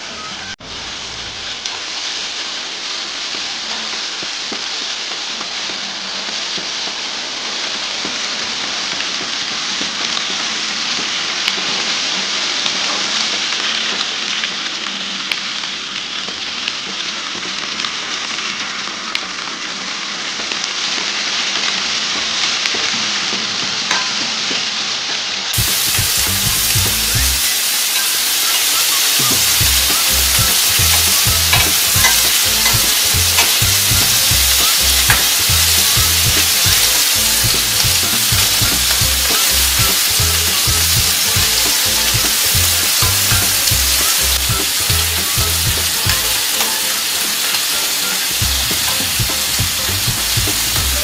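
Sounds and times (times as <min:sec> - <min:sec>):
food sizzling in a grill pan: 0:00.7 - 0:51.0.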